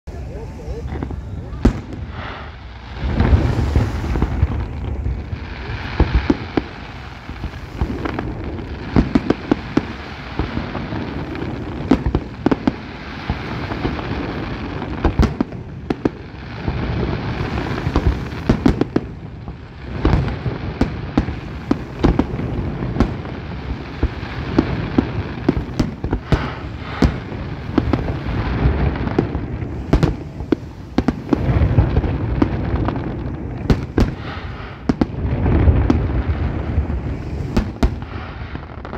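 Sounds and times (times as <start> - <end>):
firework crackle: 0.1 - 38.9
firework bangs: 0.8 - 38.9.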